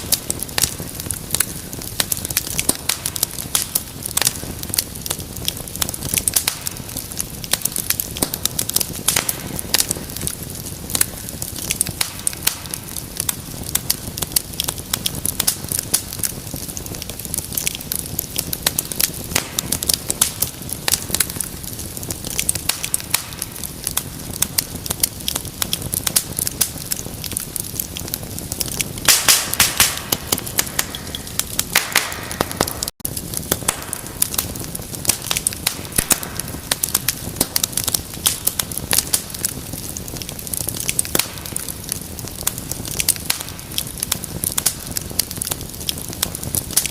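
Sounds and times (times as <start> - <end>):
fire hissing: 0.0 - 46.9
low rustle of flames: 0.0 - 46.9
wood fire crackling and popping: 0.0 - 46.9.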